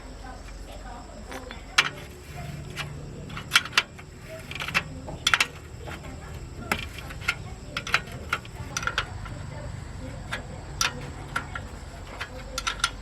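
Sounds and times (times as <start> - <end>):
hand tools clicking on metal: 0.0 - 13.0
low steady hum: 0.0 - 13.0.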